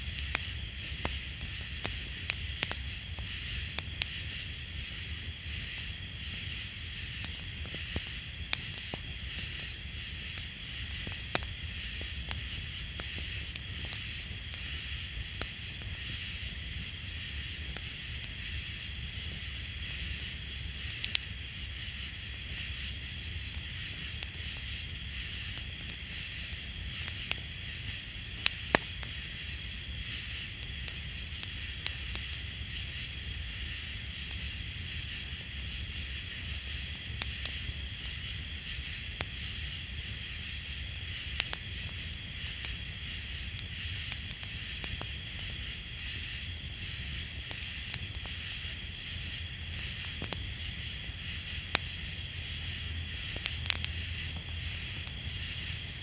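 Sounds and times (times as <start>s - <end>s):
insect-like chorus: 0.0s - 56.0s.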